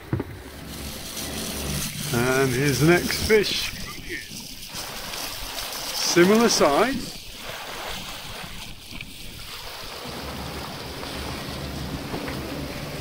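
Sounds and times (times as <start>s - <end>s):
water rushing along a hull: 0.0s - 13.0s
wind on microphone: 0.0s - 13.0s.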